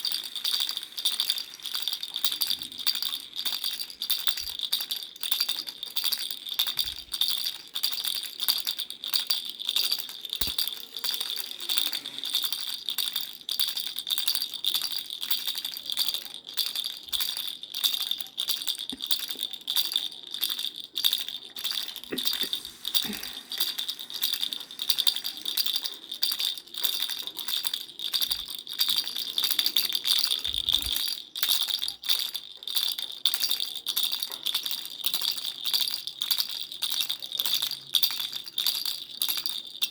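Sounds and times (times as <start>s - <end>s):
baby's rattle shaken: 0.0s - 39.9s.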